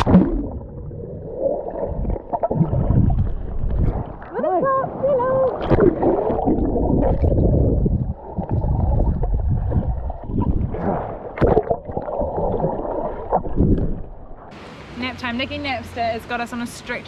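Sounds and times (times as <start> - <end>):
muffled water sloshing and gurgling: 0.0 - 14.6.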